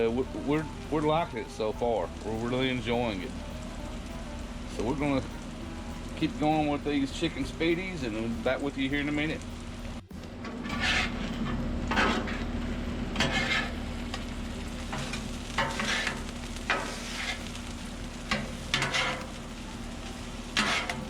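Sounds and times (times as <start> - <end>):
chicken sizzling on griddle: 0.0 - 21.0
spatula scraping griddle: 0.0 - 21.0
steady low hum: 0.0 - 21.0.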